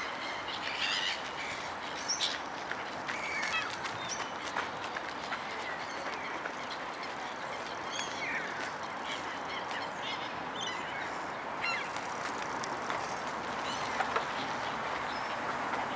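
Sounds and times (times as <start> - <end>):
waterbirds calling: 0.0 - 15.9.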